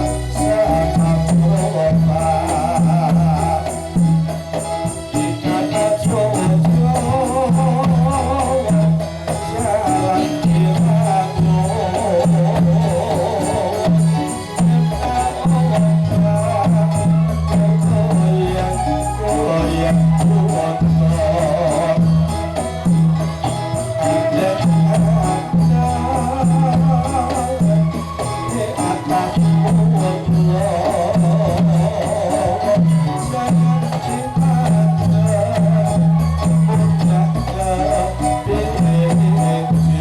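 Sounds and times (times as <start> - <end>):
folk music melody: 0.0 - 40.0
jingling hand percussion: 0.0 - 40.0
drum beat: 0.8 - 40.0.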